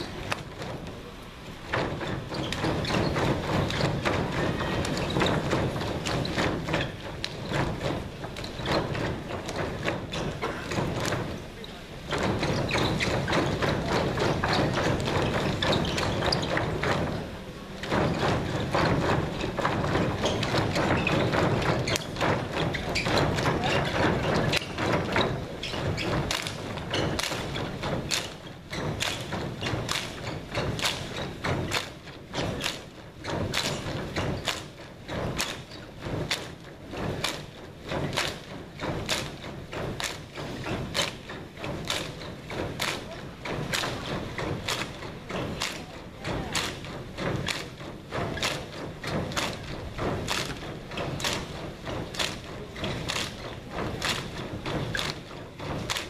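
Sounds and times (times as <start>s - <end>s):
feet stamping on stage floor: 0.0s - 56.0s.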